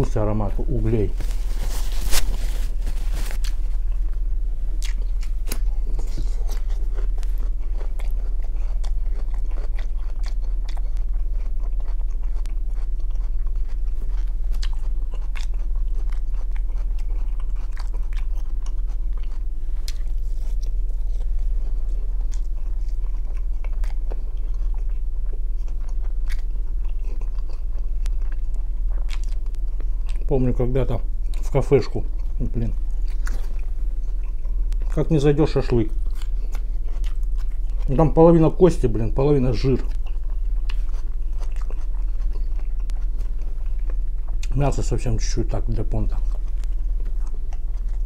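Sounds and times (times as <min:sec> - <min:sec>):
close-up chewing: 0:00.0 - 0:48.0
low electrical hum: 0:00.0 - 0:48.0.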